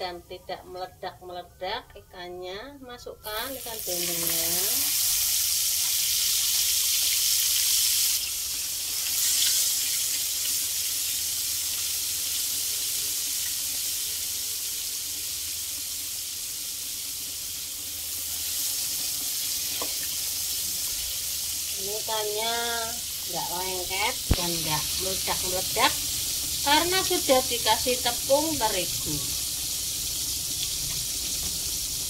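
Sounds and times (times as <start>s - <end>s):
fish sizzling in hot oil: 3.2s - 32.0s.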